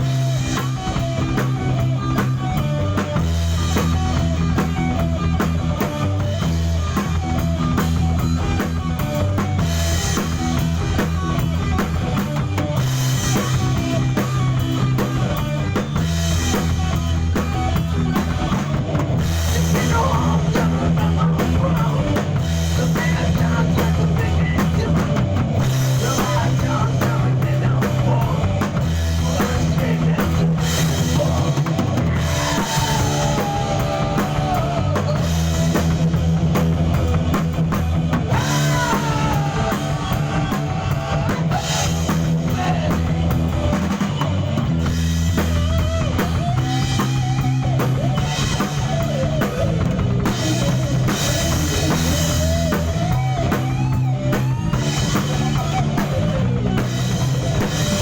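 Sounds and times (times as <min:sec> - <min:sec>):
drum kit: 0:00.0 - 0:58.0
guitar lines: 0:00.0 - 0:58.0
steady bass line: 0:00.0 - 0:58.0.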